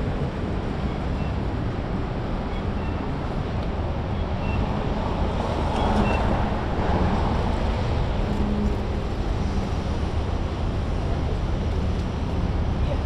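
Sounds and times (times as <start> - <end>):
passing cars: 0.0 - 13.0.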